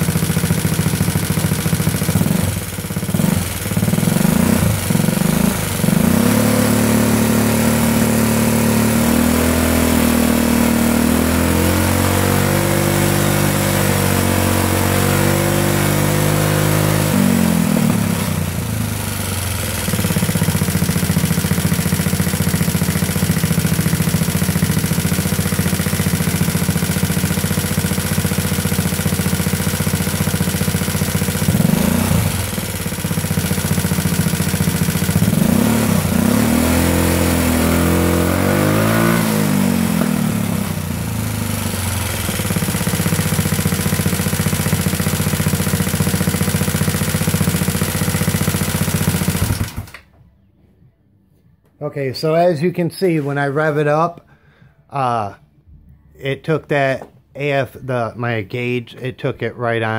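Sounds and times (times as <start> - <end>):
scooter engine revving: 0.0 - 50.1.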